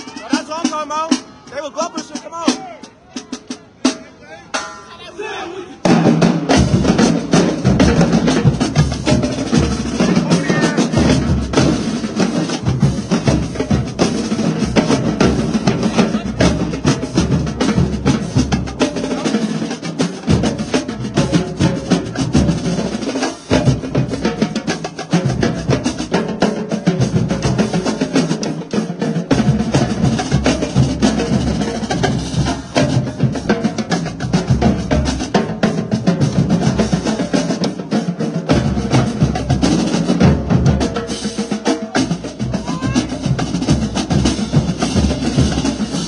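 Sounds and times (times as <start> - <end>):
snare and tenor drums: 0.0 - 4.7, 5.8 - 46.0
bass drums: 5.8 - 46.0.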